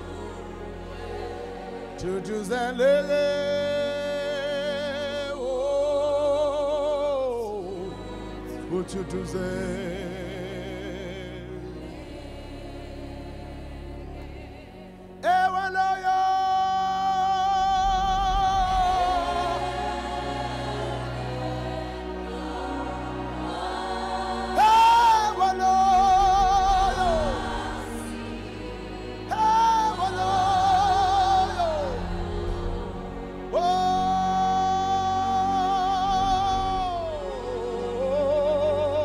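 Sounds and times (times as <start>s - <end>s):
person singing gospel: 0.0s - 39.0s.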